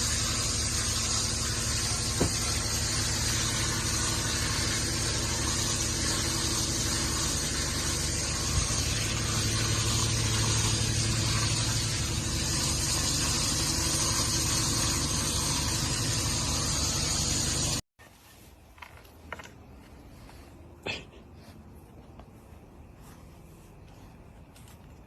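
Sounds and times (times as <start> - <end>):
engine-like hum: 0.0 - 25.0.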